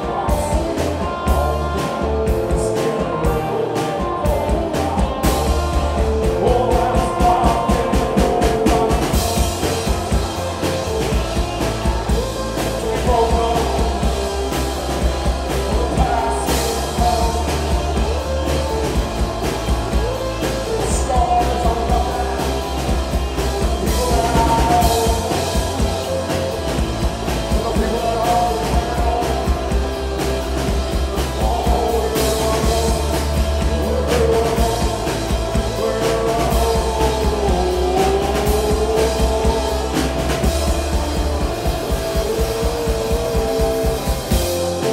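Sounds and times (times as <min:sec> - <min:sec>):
live rock band: 0:00.0 - 0:44.9
man singing: 0:00.0 - 0:44.9.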